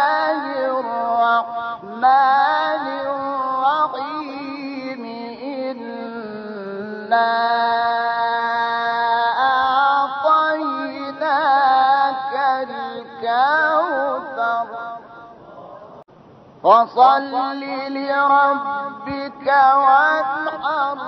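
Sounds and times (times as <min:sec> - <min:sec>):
man chanting melodic recitation: 0:00.0 - 0:16.0, 0:16.6 - 0:21.0.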